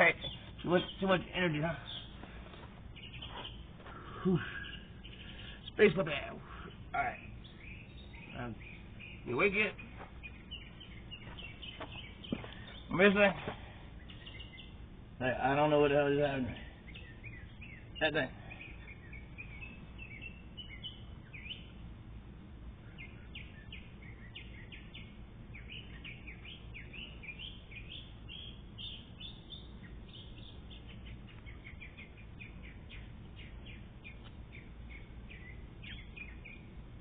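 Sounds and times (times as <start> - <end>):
low background hum: 0.0 - 37.0
small birds chirping: 0.0 - 37.0.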